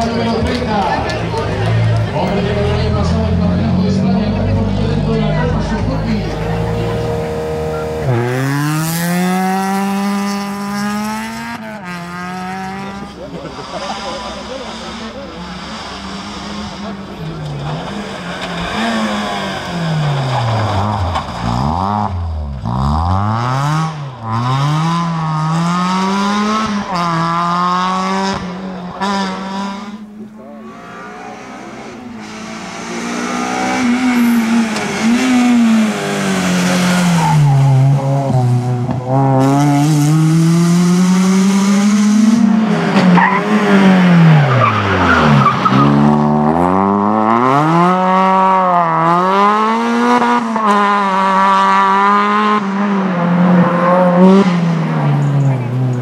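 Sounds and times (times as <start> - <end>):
rally car engine revving hard: 0.0 - 56.0.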